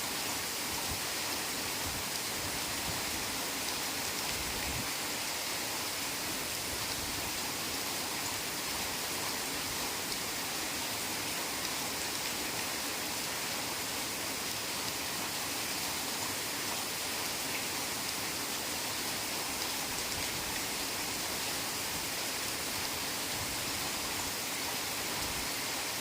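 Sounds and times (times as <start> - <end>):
heavy rain falling in forest: 0.0 - 26.0.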